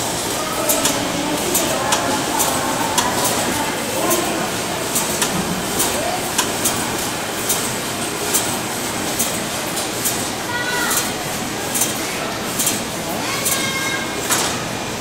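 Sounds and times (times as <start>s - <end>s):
machine clacking: 0.0s - 14.8s
steady mechanical noise: 0.0s - 15.0s.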